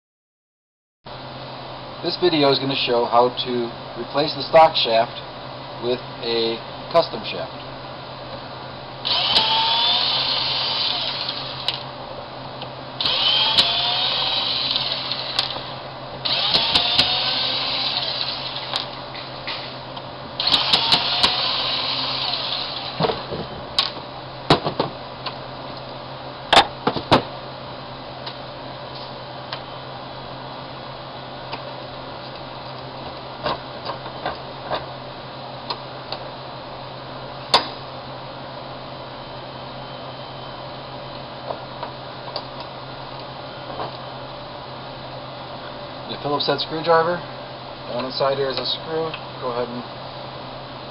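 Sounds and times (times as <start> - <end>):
steady low hum: 1.1 - 50.9.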